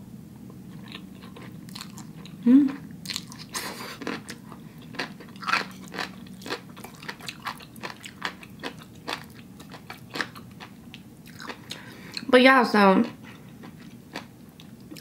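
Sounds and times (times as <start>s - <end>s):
person chewing noodles: 0.7s - 12.3s, 13.1s - 15.0s.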